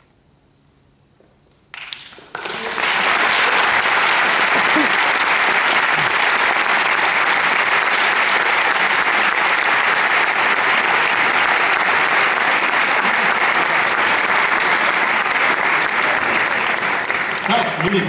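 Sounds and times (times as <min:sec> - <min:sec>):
audience applauding: 0:01.7 - 0:18.0.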